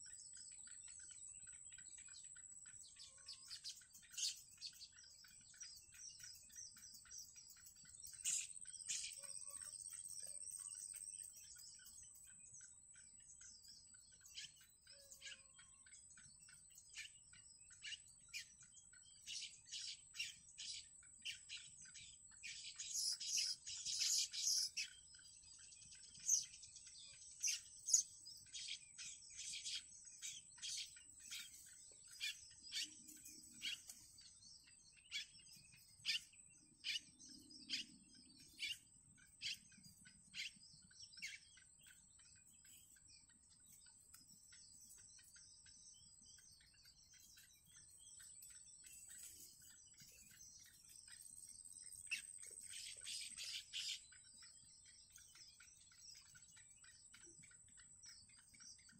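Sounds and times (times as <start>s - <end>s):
bird chicks begging chirps: 0.0s - 58.9s.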